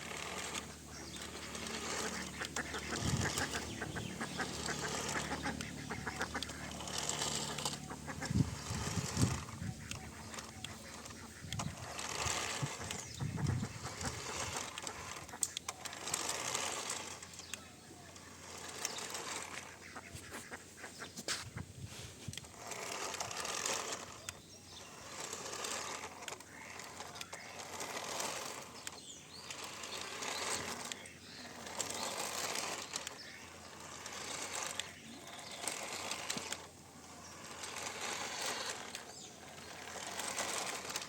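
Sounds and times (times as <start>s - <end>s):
toy vehicle motor whirring: 0.0s - 41.0s.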